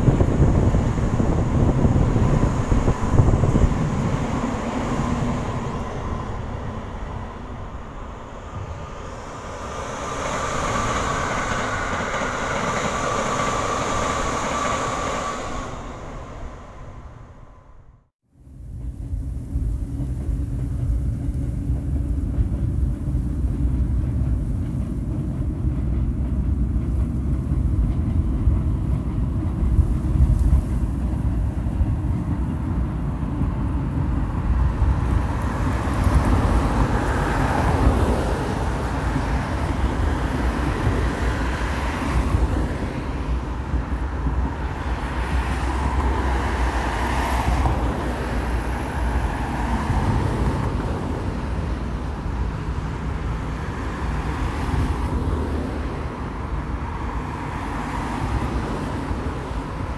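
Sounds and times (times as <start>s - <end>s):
electric train running: 0.0s - 17.7s, 18.7s - 59.9s
road traffic: 0.0s - 59.9s
wind rumble on microphone: 0.0s - 59.9s.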